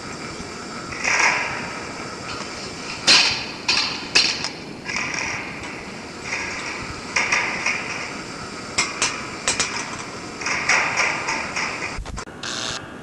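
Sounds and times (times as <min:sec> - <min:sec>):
hiss-like noise: 0:00.0 - 0:13.0
mechanical clicking and knocking: 0:00.9 - 0:12.2.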